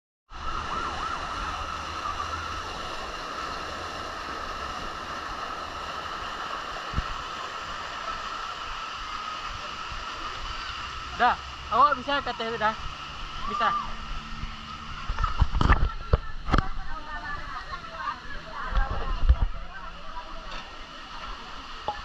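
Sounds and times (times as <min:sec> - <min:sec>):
water rushing into a pool: 0:00.3 - 0:22.0.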